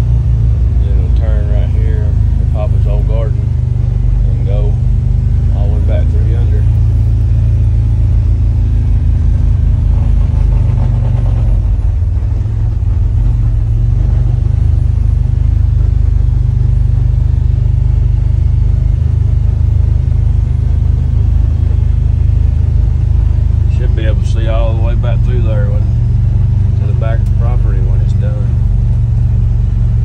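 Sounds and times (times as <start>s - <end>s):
engine rumble inside cab: 0.0s - 30.0s.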